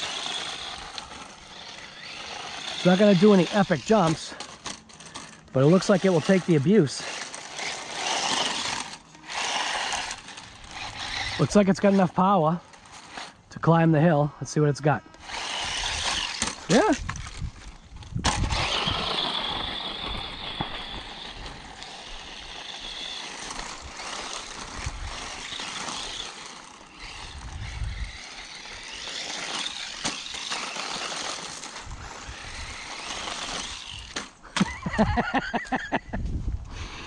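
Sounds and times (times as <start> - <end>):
small electric motor whining: 0.0 - 13.5, 15.0 - 35.8.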